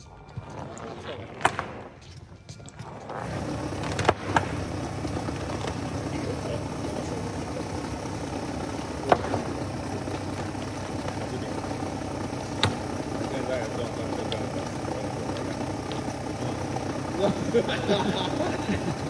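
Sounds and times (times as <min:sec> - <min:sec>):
motor humming: 0:03.0 - 0:19.0.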